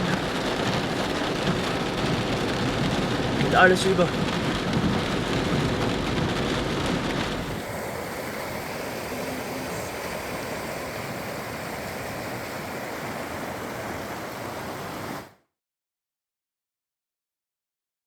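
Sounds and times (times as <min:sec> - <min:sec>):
floodwater rushing: 0:00.0 - 0:15.4.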